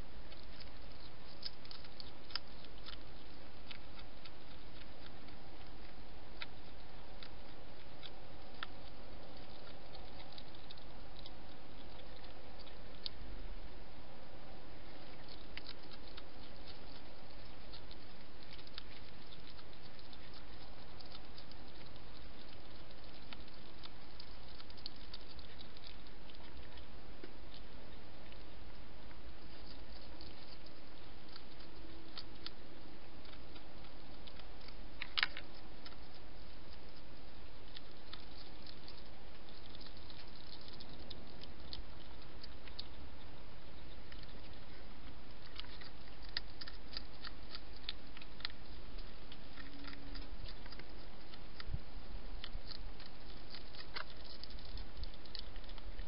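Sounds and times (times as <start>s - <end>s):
hedgehog chewing: 0.0s - 56.0s.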